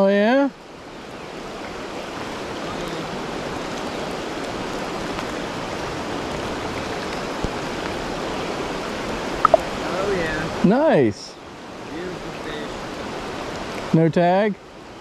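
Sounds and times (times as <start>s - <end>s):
creek flowing: 0.0s - 15.0s
rain falling: 1.4s - 13.9s.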